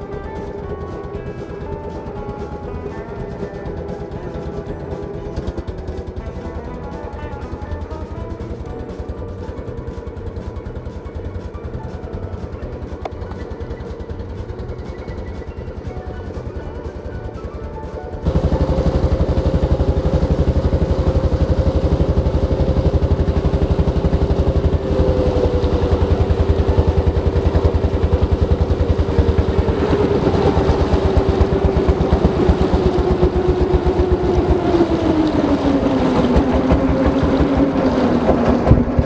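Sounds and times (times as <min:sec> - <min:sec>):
boat engine pulsing: 0:00.0 - 0:39.0.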